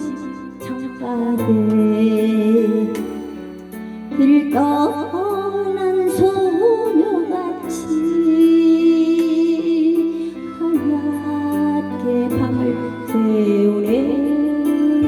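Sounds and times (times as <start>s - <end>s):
slow instrumental ballad: 0.0s - 15.0s.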